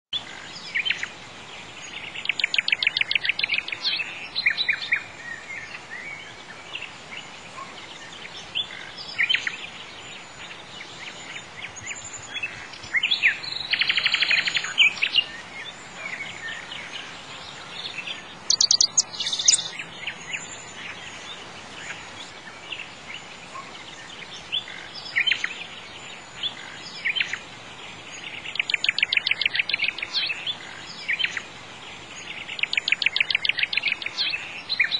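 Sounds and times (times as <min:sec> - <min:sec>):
songbirds singing: 0:00.1 - 0:34.9
steady faint hiss: 0:00.2 - 0:34.9.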